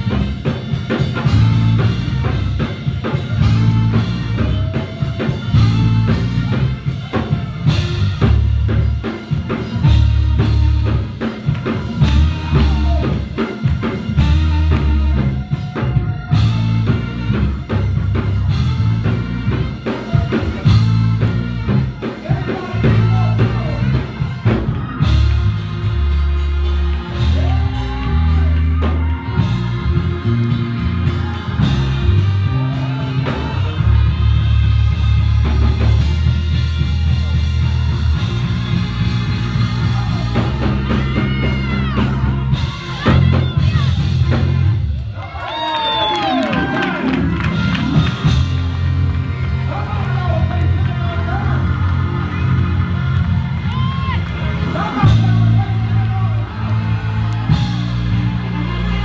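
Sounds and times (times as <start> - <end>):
band playing worship music: 0.0 - 59.0.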